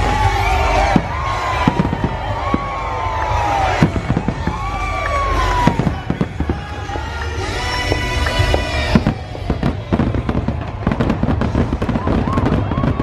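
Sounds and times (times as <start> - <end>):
firework bangs and crackling: 0.0 - 13.0
firework whistles: 0.0 - 13.0.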